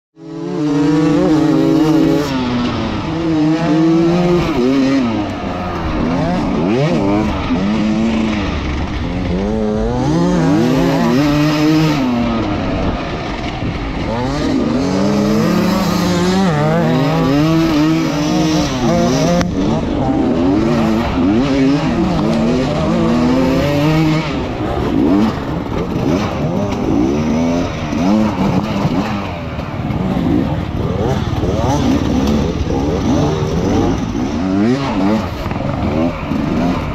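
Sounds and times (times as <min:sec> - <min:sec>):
dirt bike engine revving: 0:00.2 - 0:36.9.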